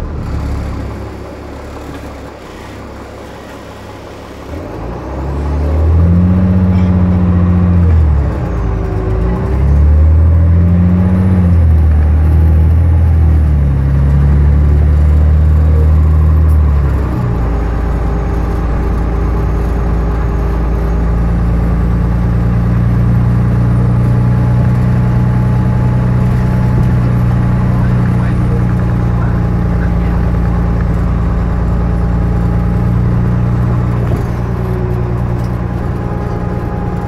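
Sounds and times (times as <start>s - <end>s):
automatic transmission shifting up: 0.0s - 37.0s
bus diesel engine pulling: 0.0s - 37.0s.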